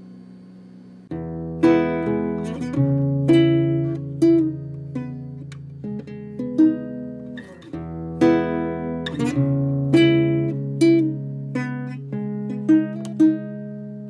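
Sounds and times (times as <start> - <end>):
plucked acoustic guitar: 1.1 - 14.0.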